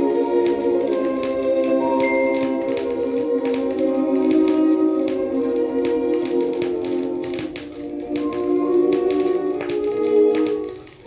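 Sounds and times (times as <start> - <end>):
short percussive taps: 0.0 - 11.0.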